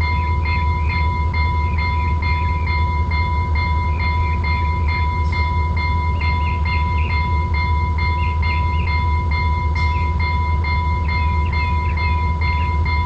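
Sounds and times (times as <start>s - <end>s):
electronic locomotive bell ringing: 0.0s - 13.0s.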